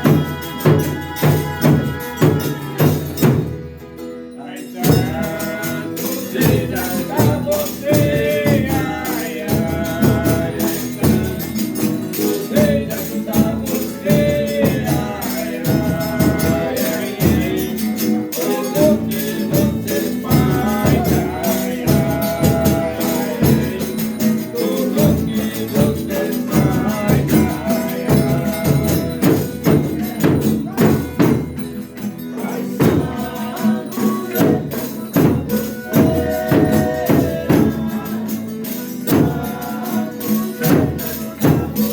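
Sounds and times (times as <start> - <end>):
tambourine beating: 0.0 - 4.0, 4.6 - 41.9
group singing together: 0.0 - 41.9
strummed guitar: 0.0 - 41.9.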